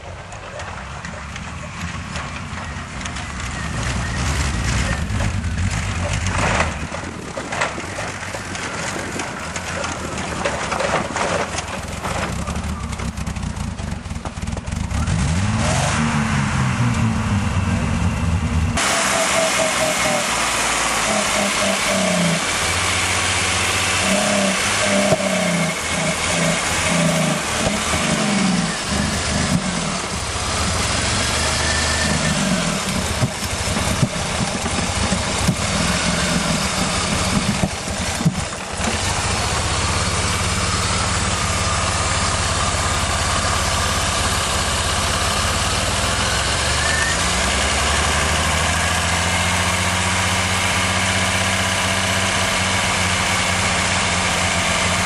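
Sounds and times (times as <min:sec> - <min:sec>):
car engine revving and idling: 0:00.0 - 0:55.0.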